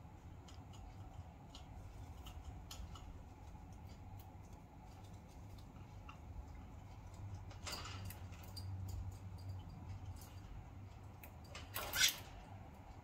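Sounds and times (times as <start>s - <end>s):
budgies clicking and scratching: 0.1s - 12.4s
cage rustle: 0.2s - 13.0s.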